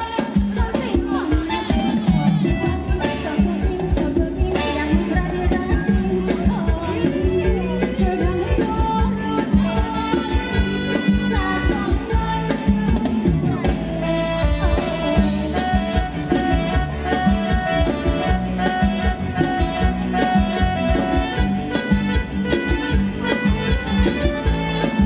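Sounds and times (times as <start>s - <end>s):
live band playing dance music: 0.0s - 25.0s
steady drum beat: 0.0s - 25.0s.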